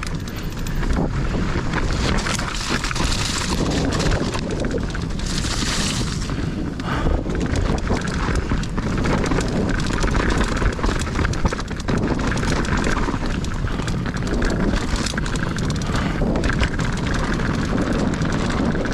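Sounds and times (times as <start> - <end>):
bike clicks and rattles: 0.0 - 18.9
tyres rolling on dirt: 0.0 - 18.9
wind buffeting microphone: 0.0 - 18.9.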